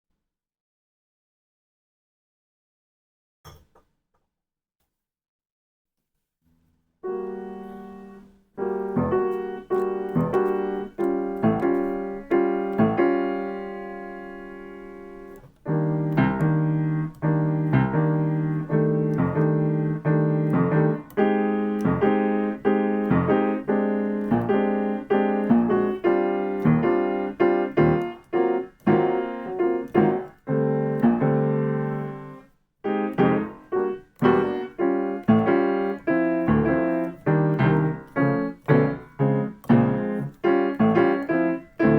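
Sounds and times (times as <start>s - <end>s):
piano playing jazz chords: 7.0s - 41.9s.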